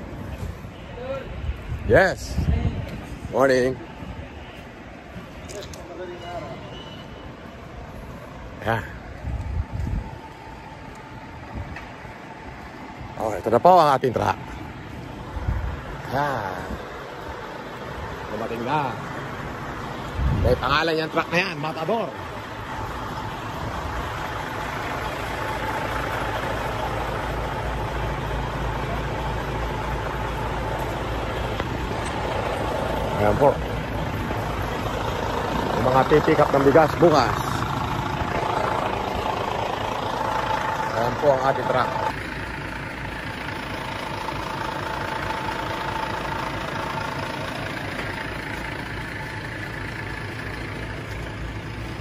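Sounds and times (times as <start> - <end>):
truck engine idling: 0.0 - 52.0.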